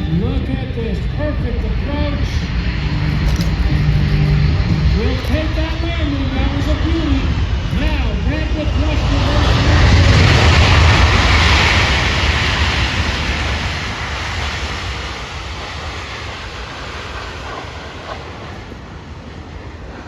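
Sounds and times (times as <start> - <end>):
aircraft reverse thrust roar: 1.5 - 20.0.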